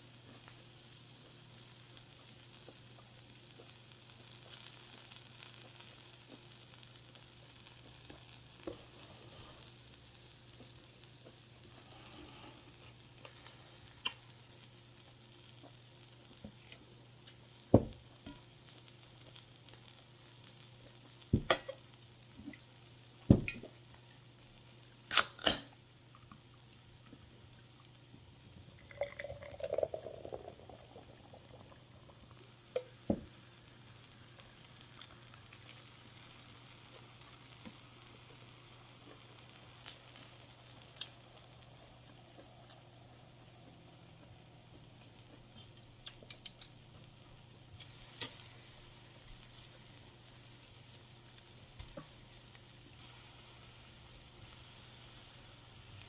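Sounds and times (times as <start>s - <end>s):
food sizzling on a grill: 0.0s - 56.0s.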